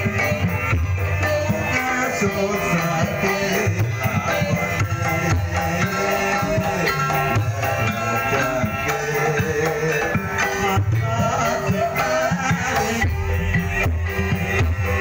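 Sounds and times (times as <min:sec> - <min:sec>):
hand-drum strokes: 0:00.0 - 0:15.0
ringing pitched percussion: 0:00.0 - 0:15.0.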